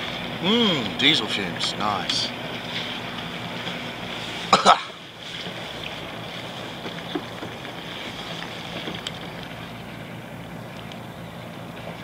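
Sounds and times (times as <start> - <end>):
boat diesel engine humming: 0.0 - 12.0.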